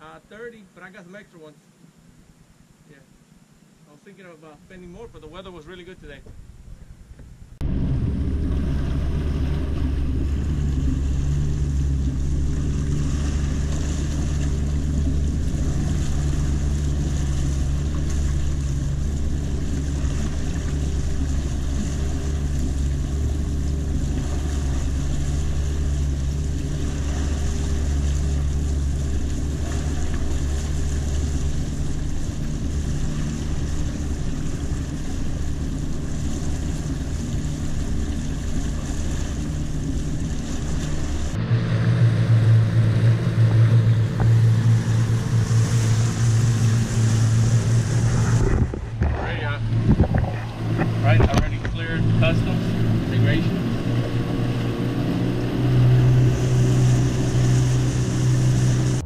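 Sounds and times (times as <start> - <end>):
boat motor humming: 0.0 - 59.0
water and wind hiss: 0.0 - 59.0.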